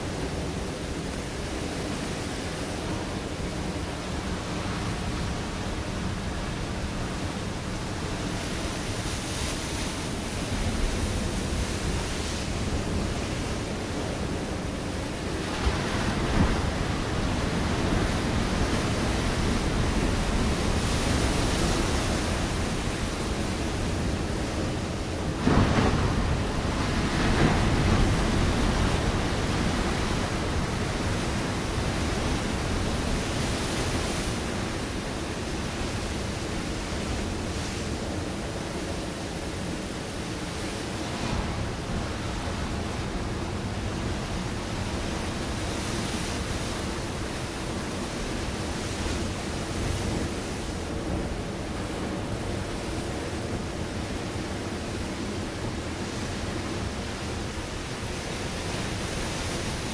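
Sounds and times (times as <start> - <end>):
waves crashing on rocks: 0.0 - 59.9
wind noise on microphone: 0.0 - 59.9.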